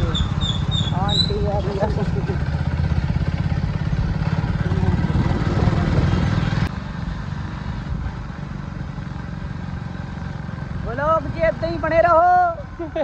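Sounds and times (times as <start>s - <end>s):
road and wind noise: 0.0s - 13.0s
vehicle engine rumbling: 0.0s - 13.0s.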